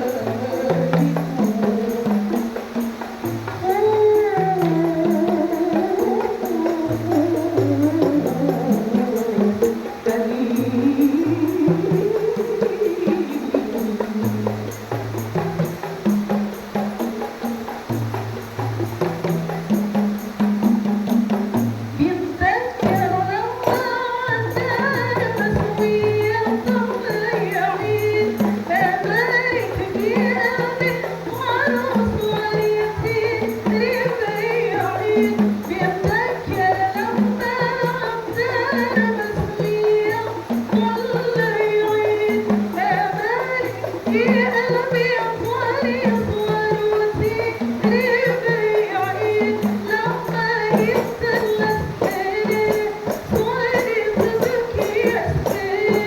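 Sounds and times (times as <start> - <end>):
frame drums beating: 0.0 - 56.0
person singing melody: 0.0 - 56.0.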